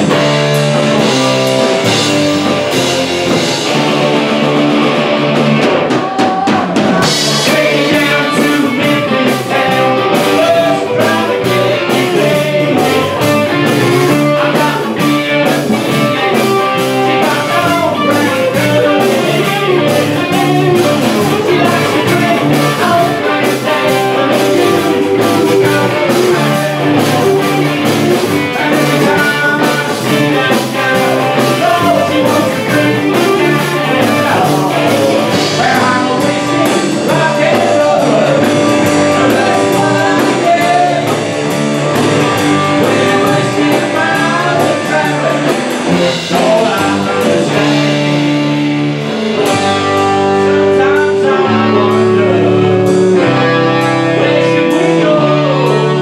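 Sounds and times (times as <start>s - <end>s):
live rock band playing: 0.0s - 56.0s
person singing: 5.6s - 56.0s.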